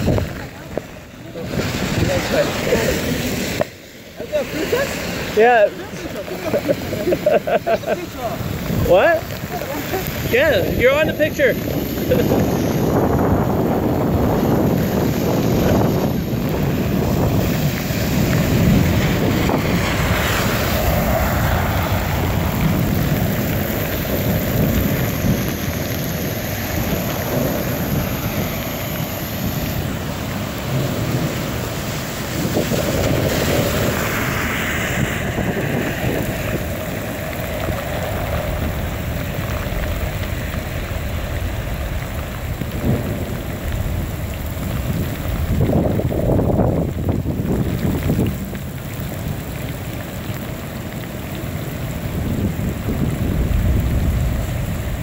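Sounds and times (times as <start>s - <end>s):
low rumbling thunder: 0.0s - 3.6s, 4.7s - 49.9s, 51.5s - 55.0s
heavy rain pouring: 0.0s - 55.0s
wind buffeting microphone: 0.0s - 55.0s.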